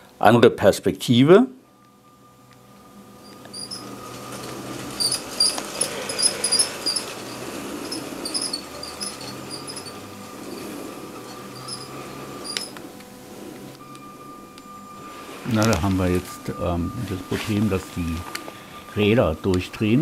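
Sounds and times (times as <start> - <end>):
toy train rolling rumble: 3.2 - 20.0
wheels squeaking and clicking: 3.2 - 20.0.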